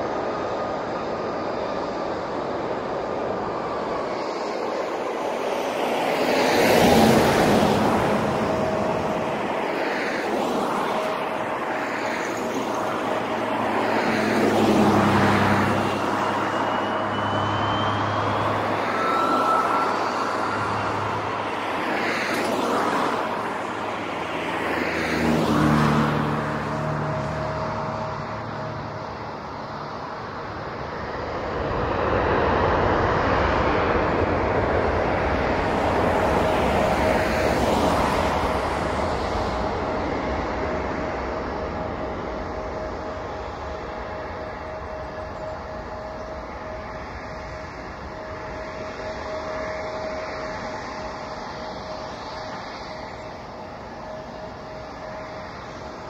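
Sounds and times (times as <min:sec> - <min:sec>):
distant jet engines: 0:00.0 - 0:56.0
road traffic passing: 0:00.0 - 0:56.0.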